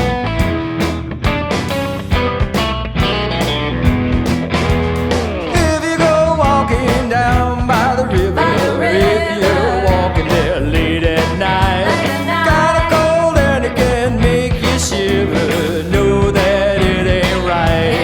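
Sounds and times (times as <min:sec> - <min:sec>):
instrumental country-rock band: 0:00.0 - 0:18.0.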